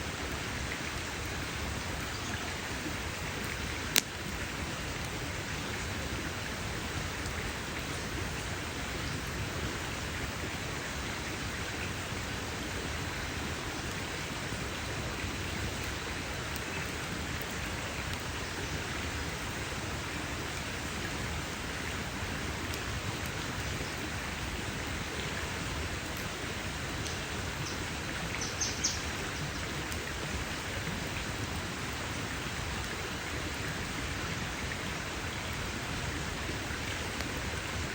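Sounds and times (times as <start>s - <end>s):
campfire hissing and crackling: 0.0s - 37.9s.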